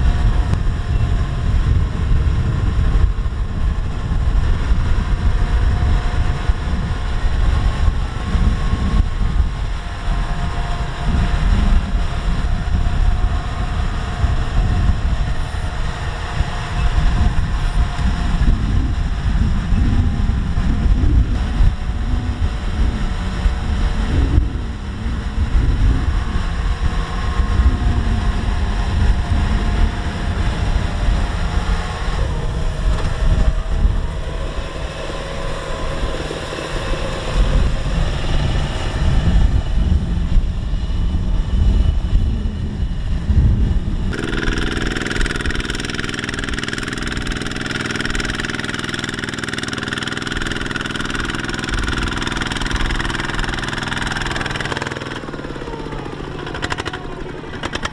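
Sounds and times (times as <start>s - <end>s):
combine harvester engine rumbling: 0.0s - 57.9s
walking tractor diesel engine: 0.0s - 57.9s.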